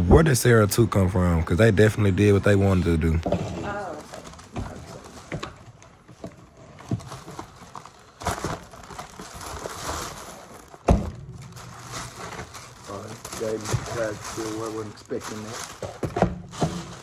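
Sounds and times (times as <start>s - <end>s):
plastic bag rustling and crinkling: 2.9s - 17.0s.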